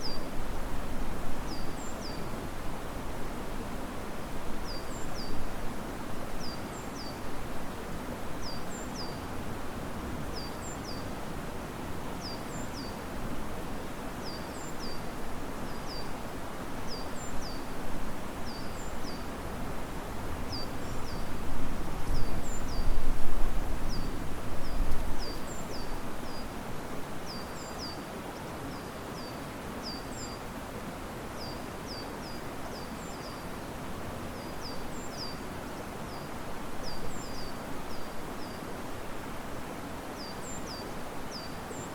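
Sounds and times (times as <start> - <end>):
river water rushing: 0.0 - 41.9
wind in trees: 0.0 - 41.9.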